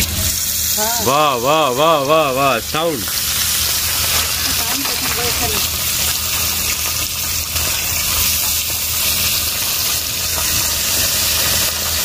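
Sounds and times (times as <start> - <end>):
fish deep-frying in hot oil: 0.0 - 12.0.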